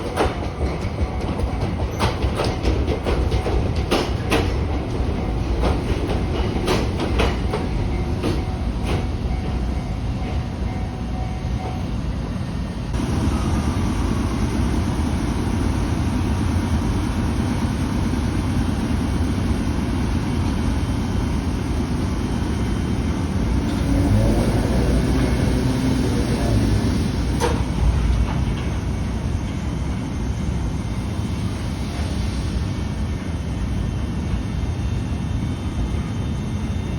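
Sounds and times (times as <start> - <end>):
electric train rumbling: 0.0 - 36.9.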